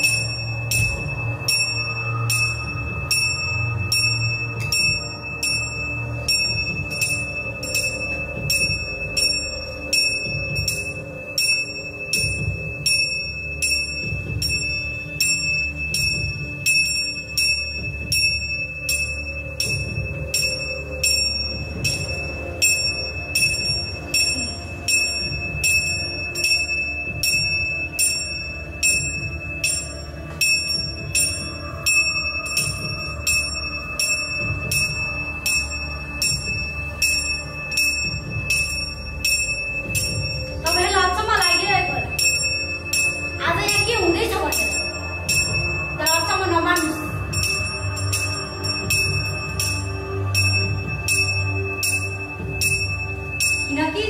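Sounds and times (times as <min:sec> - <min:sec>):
small metal bell struck: 0:00.0 - 0:54.0.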